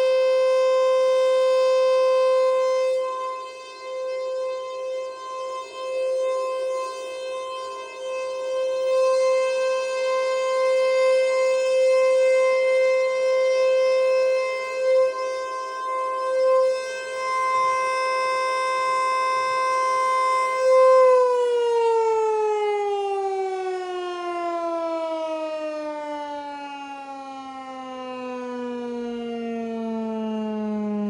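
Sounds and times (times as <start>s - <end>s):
electronic warning siren: 0.0s - 31.0s.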